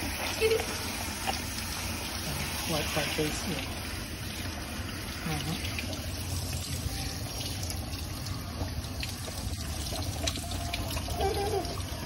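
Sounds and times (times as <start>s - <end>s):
water spraying from hose nozzle: 0.0s - 11.8s.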